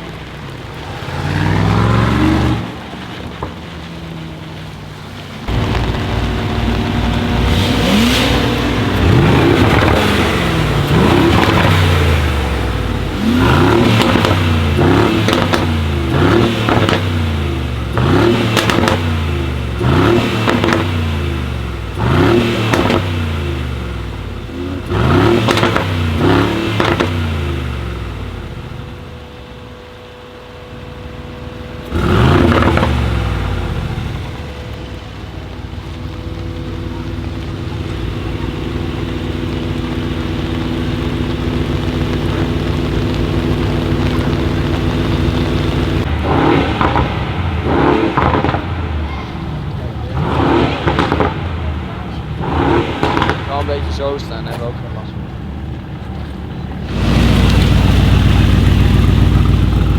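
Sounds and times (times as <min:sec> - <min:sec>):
car engine idling: 0:00.0 - 0:59.9
car engine revving: 0:00.0 - 0:59.9.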